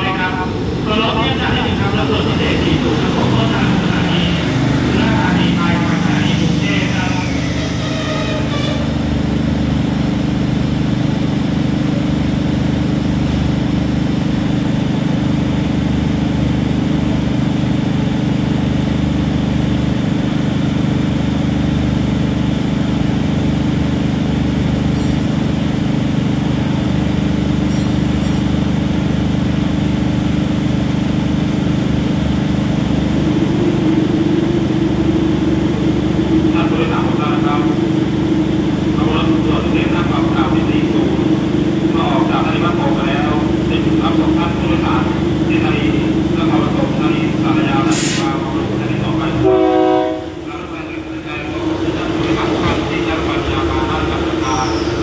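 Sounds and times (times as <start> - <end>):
diesel train low drone: 0.0 - 55.0.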